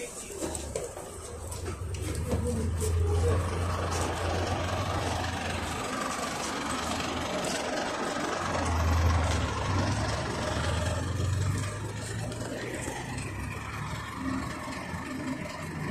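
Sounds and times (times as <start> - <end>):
bus engine pulling away: 0.0 - 15.9.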